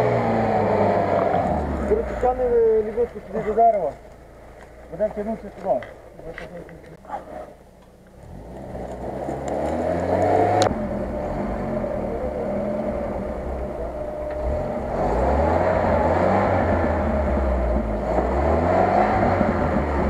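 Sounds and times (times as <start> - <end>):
off-road vehicle engine revving: 0.0 - 6.3, 7.0 - 20.0.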